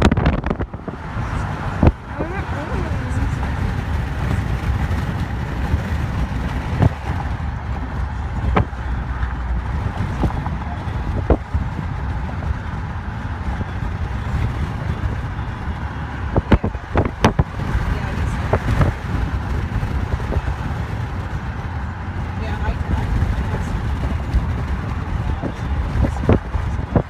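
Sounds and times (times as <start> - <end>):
car road and engine rumble: 0.0 - 27.0.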